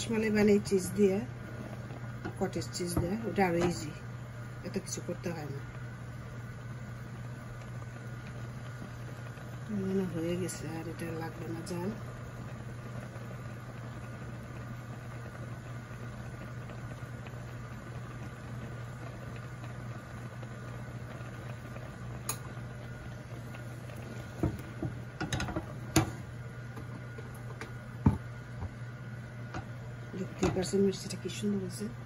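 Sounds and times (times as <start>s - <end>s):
syrup bubbling in a pot: 0.0s - 30.7s
low steady hum: 0.0s - 32.0s.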